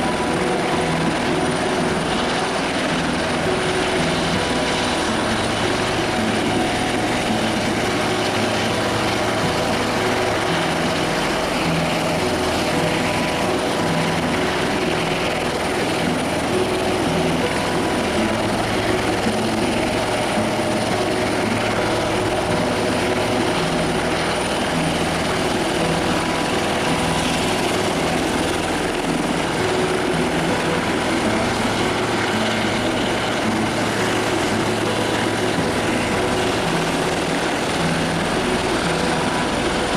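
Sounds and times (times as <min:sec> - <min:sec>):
helicopter running: 0:00.0 - 0:39.9
thin high whine: 0:00.0 - 0:39.9.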